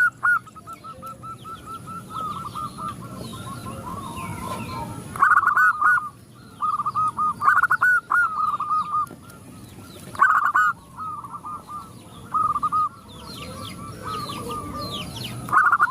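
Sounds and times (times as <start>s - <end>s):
doves cooing: 0.0s - 15.9s
faint high bird chirps: 0.0s - 15.9s.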